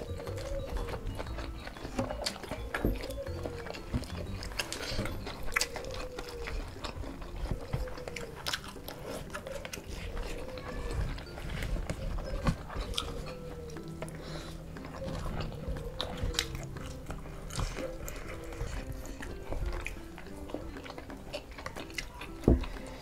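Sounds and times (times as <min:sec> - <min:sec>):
faint background music: 0:00.0 - 0:23.0
person chewing food: 0:00.0 - 0:23.0.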